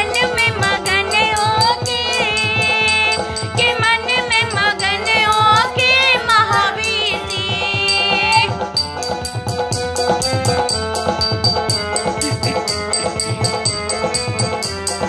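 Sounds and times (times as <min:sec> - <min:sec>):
keyboard drum rhythm: 0:00.0 - 0:15.0
keyboard held chords: 0:00.0 - 0:15.0
keyboard lead melody: 0:00.0 - 0:15.0.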